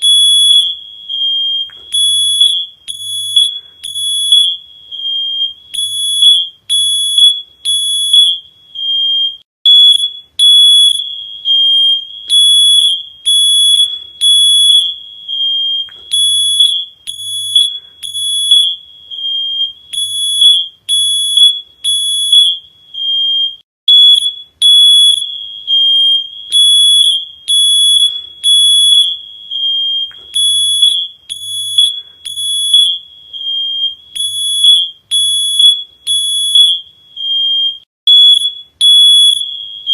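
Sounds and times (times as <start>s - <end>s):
smoke alarm beeping: 0.0s - 39.9s.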